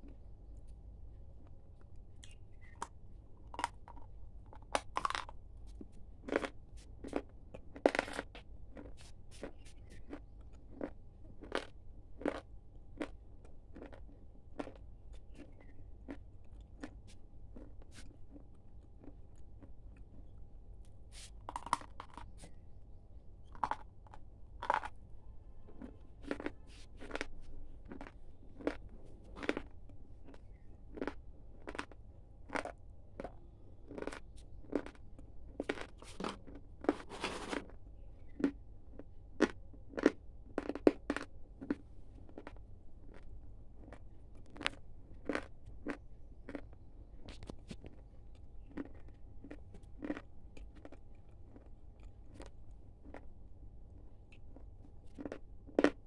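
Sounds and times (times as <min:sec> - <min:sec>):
crunchy snack chewing: 0:01.4 - 0:20.4, 0:21.1 - 0:22.6, 0:23.4 - 0:25.0, 0:25.6 - 0:53.3, 0:54.0 - 0:56.0.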